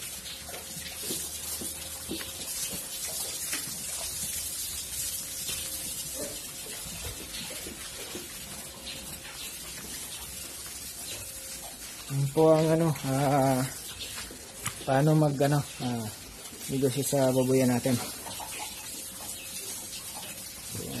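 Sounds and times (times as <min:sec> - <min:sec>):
running water hissing: 0:00.0 - 0:21.0.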